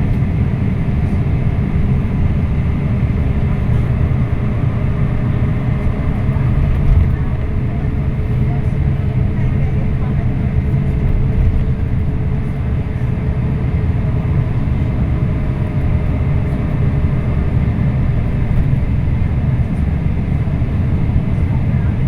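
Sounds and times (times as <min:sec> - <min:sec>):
coach engine and road rumble: 0:00.0 - 0:22.0.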